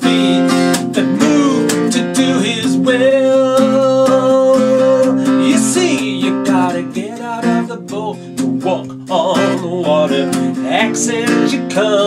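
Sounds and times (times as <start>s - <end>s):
acoustic guitar strumming: 0.0s - 12.0s
man singing: 0.0s - 12.0s.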